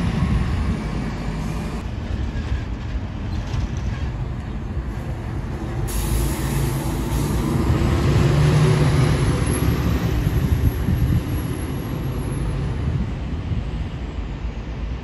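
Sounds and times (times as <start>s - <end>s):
bus engine driving past: 0.0s - 15.0s.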